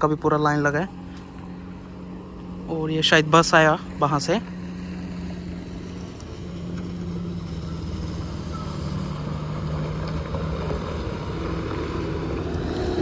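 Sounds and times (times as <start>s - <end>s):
bus and heavy vehicle engines humming: 0.0s - 13.0s.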